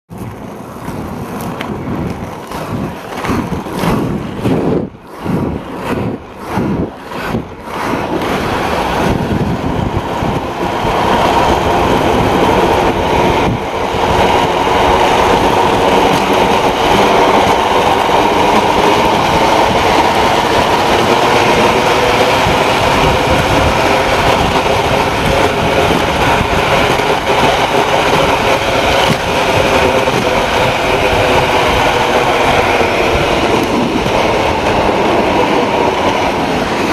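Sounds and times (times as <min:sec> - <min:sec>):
inline skate wheels rolling on asphalt: 0:00.1 - 0:36.9.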